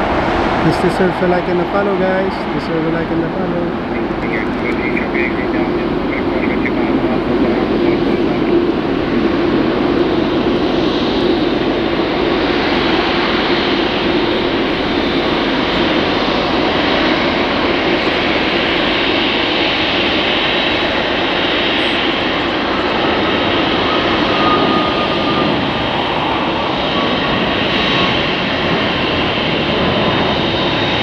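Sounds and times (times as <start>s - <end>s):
jet engines rushing: 0.0s - 31.0s.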